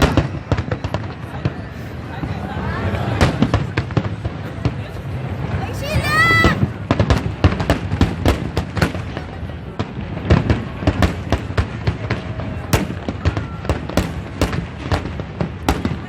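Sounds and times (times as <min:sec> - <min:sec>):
faint voices of onlookers: 0:00.0 - 0:07.7, 0:08.3 - 0:16.0
firework bangs and crackling: 0:00.0 - 0:16.0.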